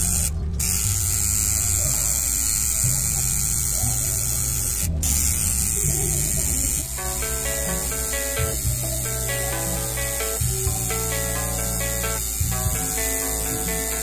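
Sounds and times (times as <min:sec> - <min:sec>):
tattoo machine buzzing: 0:00.0 - 0:14.0.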